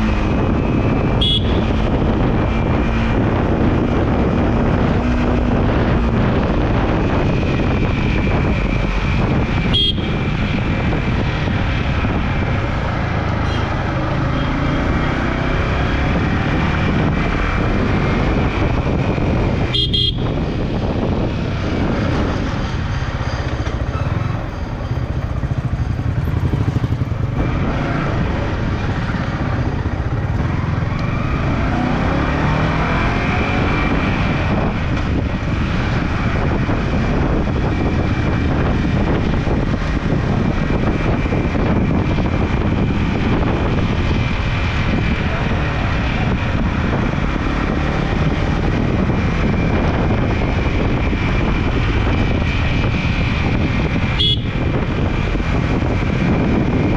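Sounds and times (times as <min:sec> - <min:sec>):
motorcycle engine rumbling: 0:00.0 - 0:56.9.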